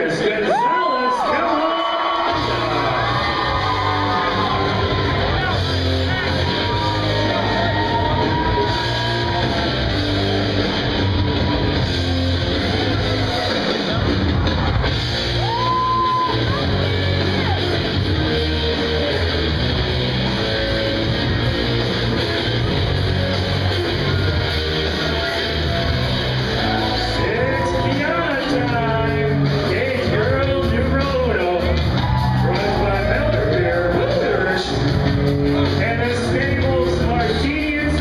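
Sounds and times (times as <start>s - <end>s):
loud rock music with singing: 0.0s - 38.0s.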